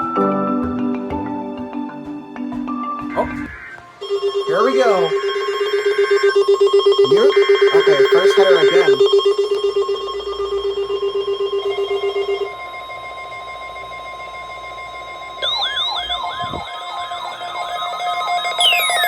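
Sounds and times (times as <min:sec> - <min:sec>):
steady alarm tones: 0:02.7 - 0:19.0
pulsing low alarm tone: 0:03.1 - 0:19.0
siren-like warble: 0:03.1 - 0:19.0.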